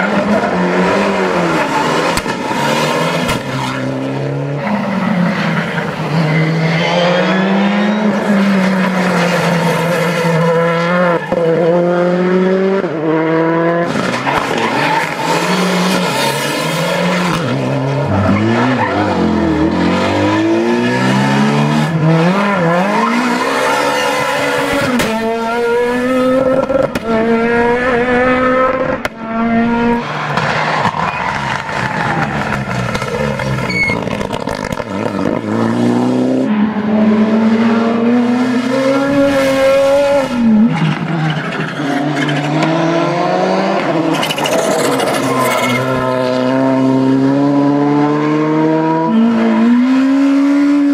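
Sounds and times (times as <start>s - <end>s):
rally car engines accelerating: 0.0s - 50.9s.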